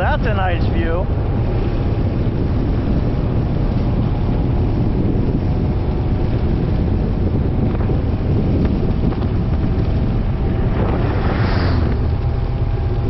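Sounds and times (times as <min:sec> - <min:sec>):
motorcycle engine and road noise: 0:00.0 - 0:13.0
wind blowing over microphone: 0:00.0 - 0:13.0.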